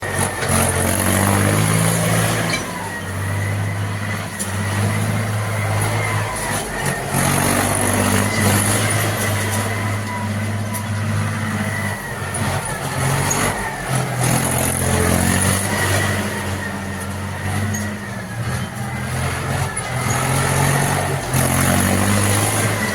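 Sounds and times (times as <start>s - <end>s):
thresher rushing noise: 0.0s - 22.9s
tractor engine drone: 0.0s - 22.9s.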